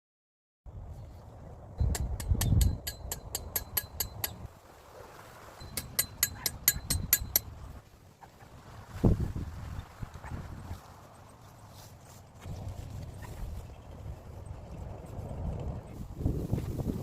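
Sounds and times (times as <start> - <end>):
low wind rumble: 0.7 - 17.0.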